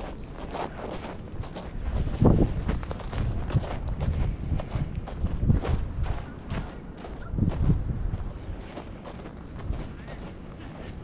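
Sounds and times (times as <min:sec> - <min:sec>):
footsteps on snow: 0:00.0 - 0:11.0
wind noise on microphone: 0:00.0 - 0:11.0.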